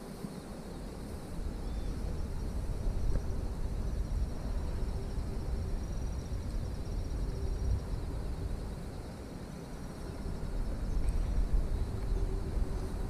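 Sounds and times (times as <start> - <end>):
faint insect trill: 0.0 - 13.0.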